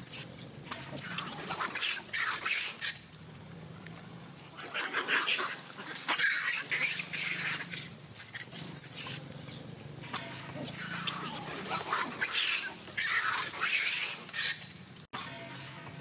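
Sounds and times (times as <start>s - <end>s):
monkeys screaming and squealing: 0.0s - 15.7s.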